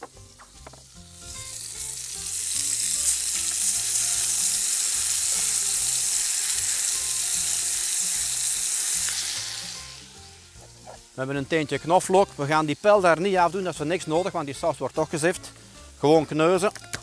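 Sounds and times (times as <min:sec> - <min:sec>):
vegetables sizzling in a saucepan: 0:00.0 - 0:17.0.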